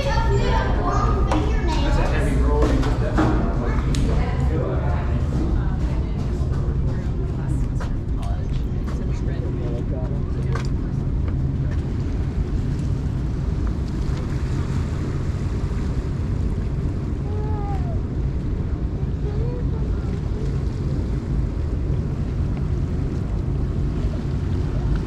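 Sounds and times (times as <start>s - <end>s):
ferry engines rumbling: 0.0s - 25.0s
wind on microphone: 0.0s - 25.0s.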